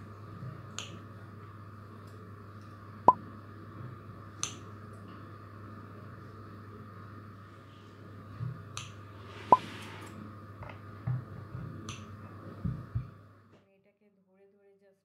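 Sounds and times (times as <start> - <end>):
faint steady hum: 0.0 - 13.6.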